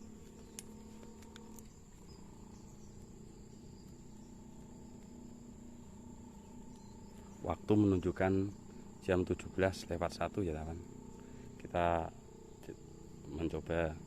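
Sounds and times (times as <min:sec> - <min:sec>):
crickets chirring: 0:00.0 - 0:14.0
low rumbling background: 0:00.0 - 0:14.0.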